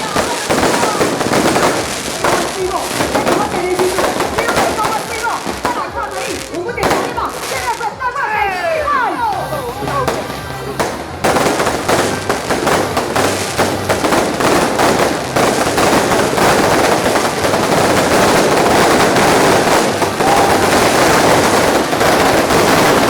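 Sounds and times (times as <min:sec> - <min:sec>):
fireworks cracking and popping: 0:00.0 - 0:23.0.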